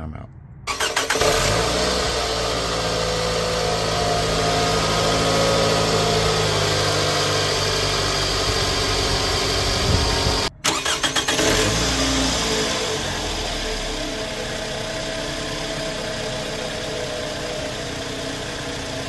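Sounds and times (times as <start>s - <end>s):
car engine idling: 0.8s - 19.0s.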